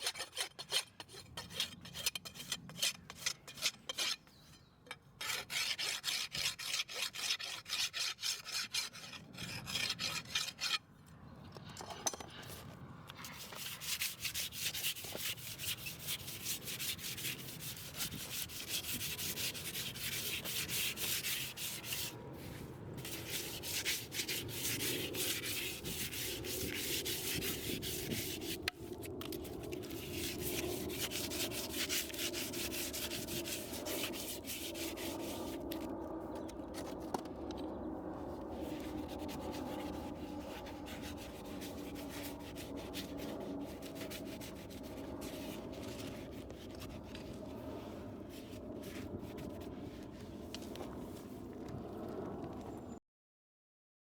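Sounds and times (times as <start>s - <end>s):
tool rasping a horse's hoof: 0.0s - 10.8s, 13.2s - 35.8s, 38.6s - 50.2s.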